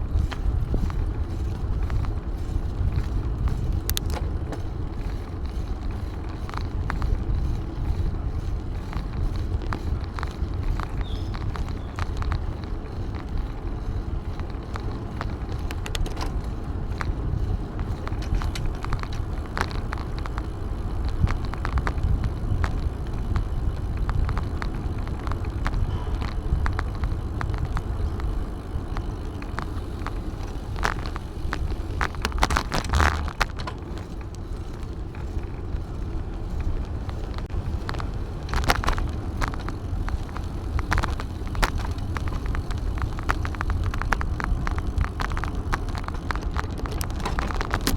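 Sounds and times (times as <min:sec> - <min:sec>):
bicycle clicks and rattles: 0:00.0 - 0:47.9
wind and tyre rumble: 0:00.0 - 0:47.9.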